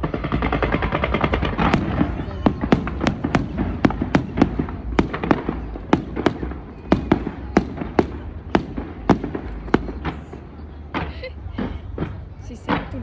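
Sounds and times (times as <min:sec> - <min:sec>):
fireworks bangs and cracks: 0:00.0 - 0:13.0
steady low rumble: 0:00.0 - 0:13.0.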